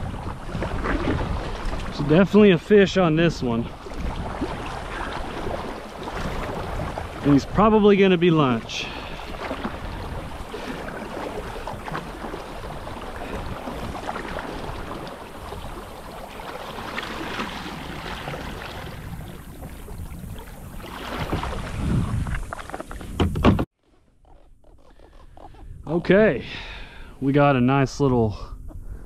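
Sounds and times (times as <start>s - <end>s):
wind on microphone: 0.0s - 8.0s, 8.6s - 23.7s, 24.3s - 29.0s
paddle splashing in water: 0.0s - 25.6s.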